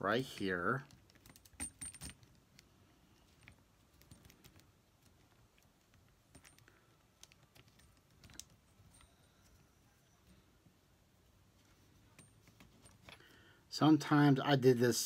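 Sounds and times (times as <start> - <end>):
faint clicks of small parts: 0.2 - 10.4, 11.6 - 13.5.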